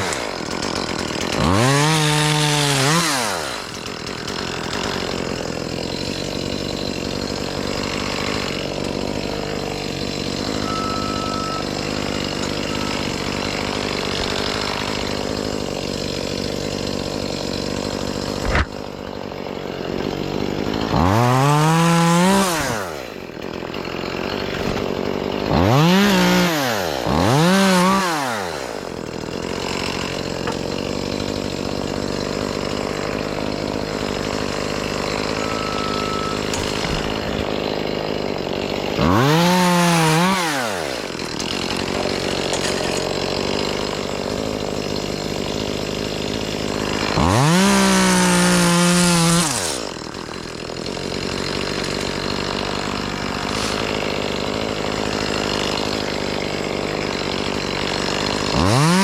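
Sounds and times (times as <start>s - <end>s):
chainsaw idling and revving: 0.0s - 59.0s.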